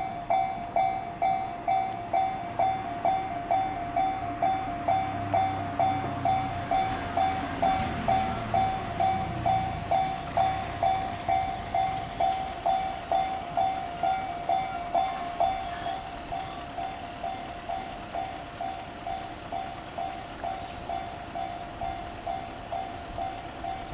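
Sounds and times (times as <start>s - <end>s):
level crossing warning bell: 0.0s - 23.9s
train rumble: 0.0s - 23.9s.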